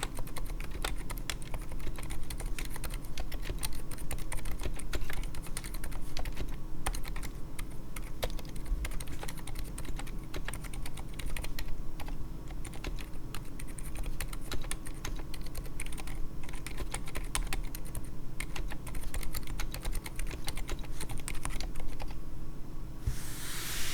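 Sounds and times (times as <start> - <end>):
fast typing on keyboard: 0.0 - 22.2.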